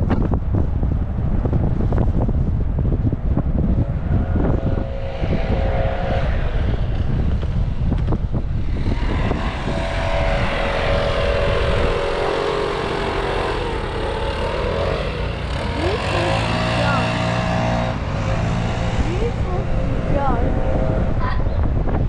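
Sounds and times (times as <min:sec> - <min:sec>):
steady drone: 0:00.0 - 0:22.0
truck engine and road noise: 0:00.0 - 0:22.0
wind buffeting microphone: 0:00.0 - 0:22.0.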